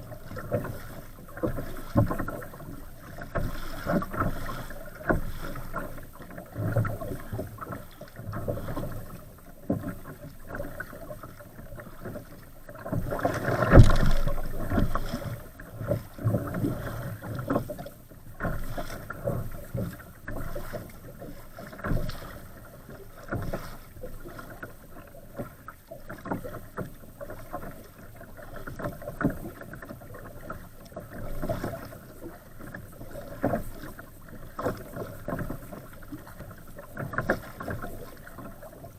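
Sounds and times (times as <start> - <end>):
waves slapping kayak hull: 0.0 - 38.9.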